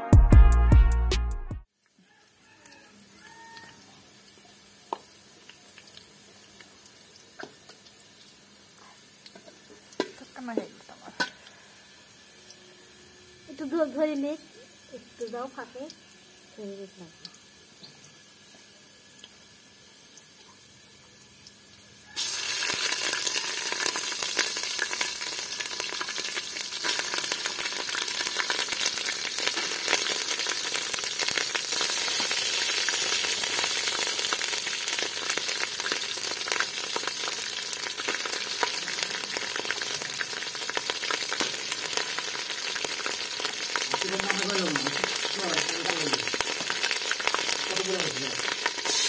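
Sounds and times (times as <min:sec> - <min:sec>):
meat and onions sizzling in oil: 0:01.8 - 0:49.0.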